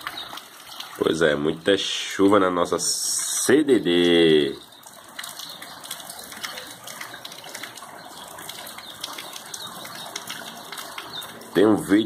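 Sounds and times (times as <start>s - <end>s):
rain drops ticking: 0.0s - 12.0s
steady rain falling: 0.0s - 12.0s.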